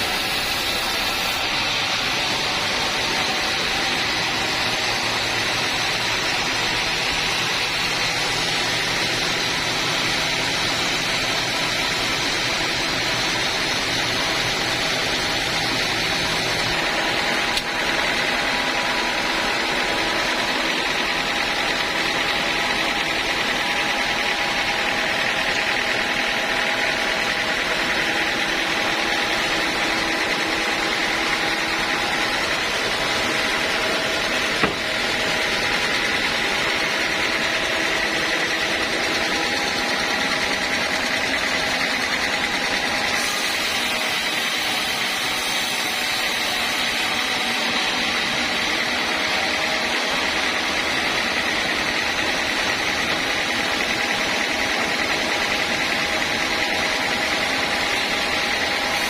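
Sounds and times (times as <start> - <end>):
band sawmill running: 0.0 - 59.0.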